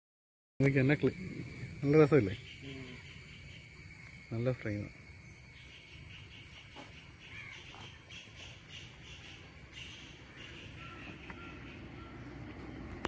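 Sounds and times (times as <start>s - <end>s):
distant birds calling: 0.6s - 13.0s
steady high-pitched whine: 0.6s - 13.0s.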